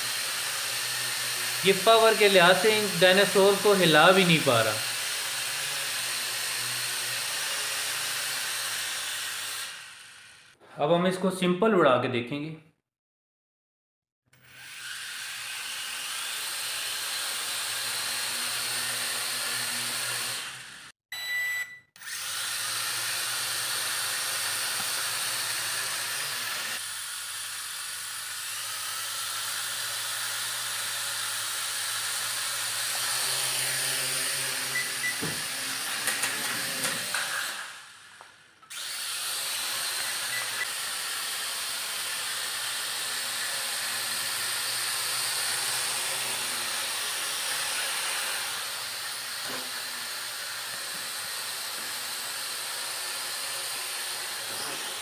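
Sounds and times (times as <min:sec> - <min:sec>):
quadcopter motors whirring: 0:00.0 - 0:10.6, 0:14.4 - 0:20.9, 0:22.0 - 0:55.0.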